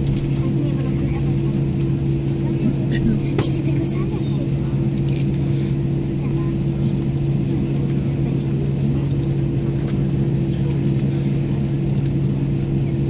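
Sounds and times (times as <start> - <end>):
jet engines idling in cabin: 0.0 - 13.0.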